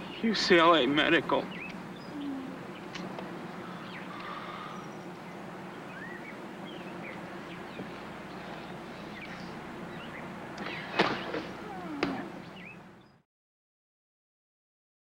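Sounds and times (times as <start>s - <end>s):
steady hum and hiss: 0.0s - 13.2s.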